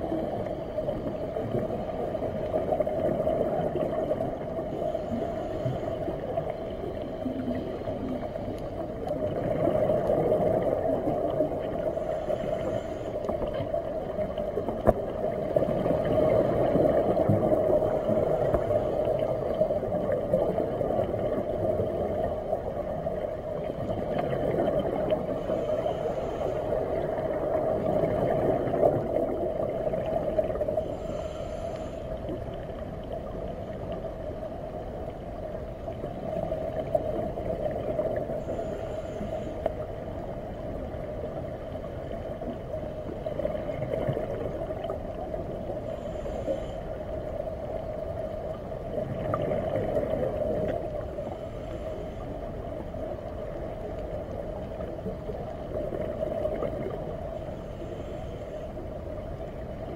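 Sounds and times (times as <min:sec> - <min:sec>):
rumbling water noise: 0:00.0 - 0:59.9.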